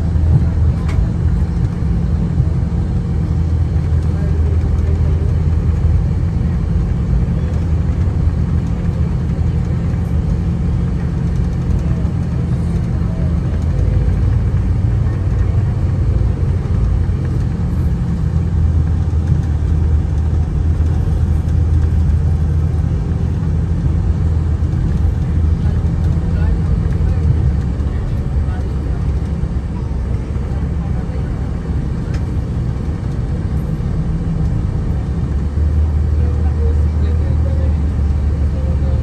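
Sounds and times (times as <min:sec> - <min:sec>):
vehicle engine and tyres rumble: 0:00.0 - 0:39.0.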